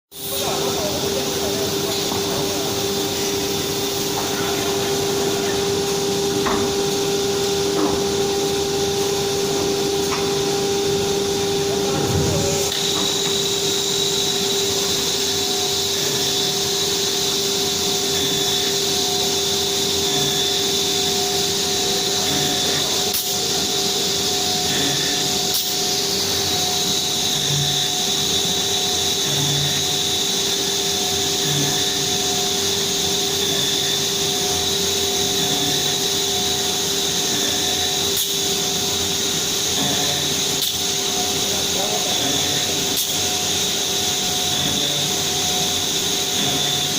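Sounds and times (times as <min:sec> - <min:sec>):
machine whine: 0:00.1 - 0:46.9.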